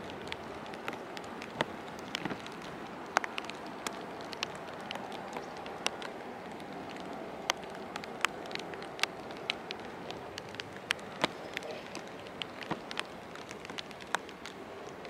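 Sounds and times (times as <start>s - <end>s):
rain falling: 0.0s - 15.0s
raindrops tapping close by: 0.0s - 15.0s.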